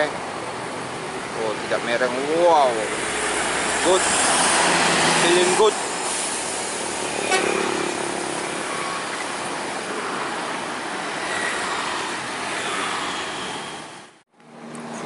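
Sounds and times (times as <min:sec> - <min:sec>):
traffic passing: 0:00.0 - 0:15.0.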